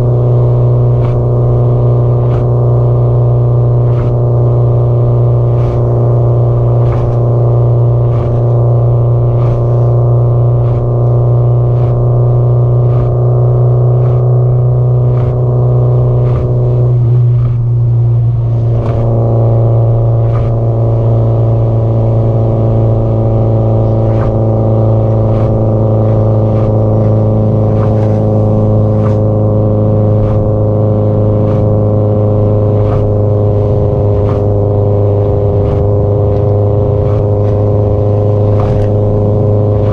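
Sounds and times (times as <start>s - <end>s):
car engine droning at cruise: 0.0s - 39.9s.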